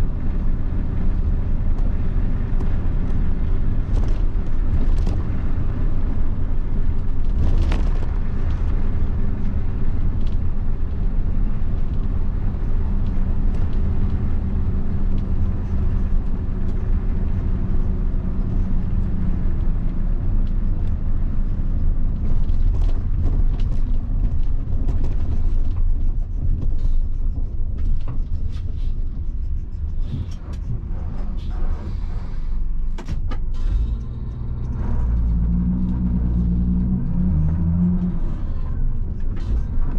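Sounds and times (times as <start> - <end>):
bus diesel engine rumbling: 0.0 - 39.9
creaks and rattles: 0.2 - 39.9.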